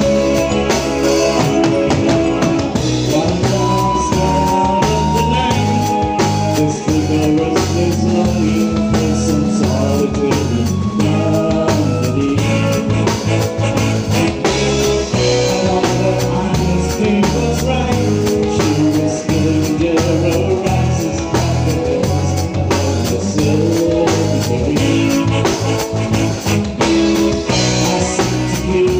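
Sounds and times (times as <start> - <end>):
drums beating: 0.0 - 28.9
live rock band: 0.0 - 28.9
person singing: 0.0 - 28.9.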